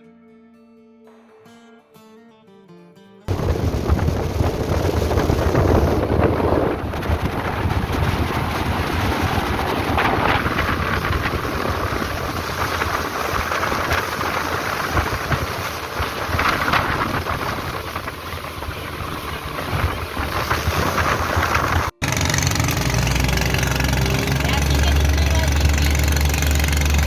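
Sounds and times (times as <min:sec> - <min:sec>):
boat engine running: 0:03.3 - 0:27.0
wind buffeting microphone: 0:03.3 - 0:27.0.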